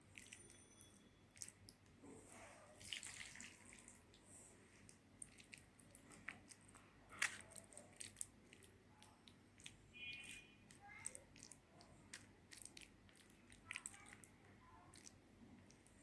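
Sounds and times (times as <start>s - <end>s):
soft food squishes: 0.0s - 16.0s.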